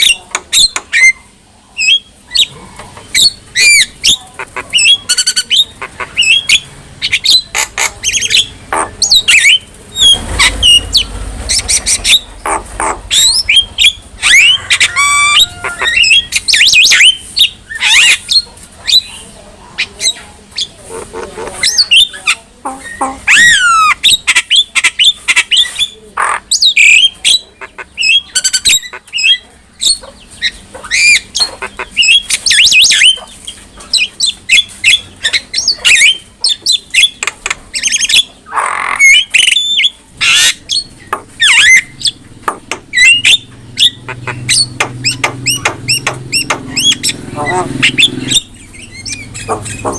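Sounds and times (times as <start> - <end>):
myna squawking and whistling: 3.1 - 19.1, 21.0 - 33.3, 34.0 - 42.2, 42.9 - 49.9.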